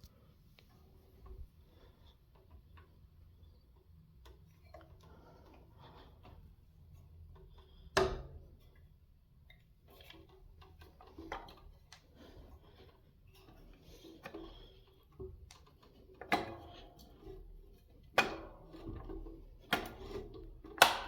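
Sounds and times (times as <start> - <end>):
clicks and rustles handling fan: 0.0 - 21.0.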